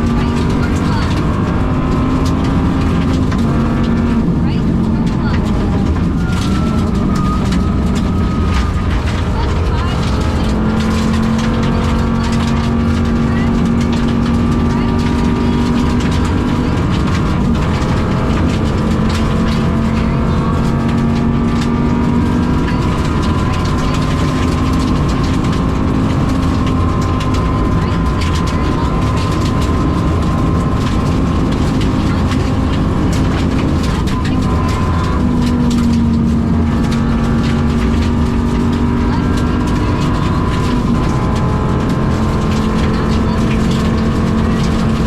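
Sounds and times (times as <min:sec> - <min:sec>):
engine ticks and pops: 0:00.0 - 0:45.0
rally car engine at high revs: 0:00.0 - 0:45.0.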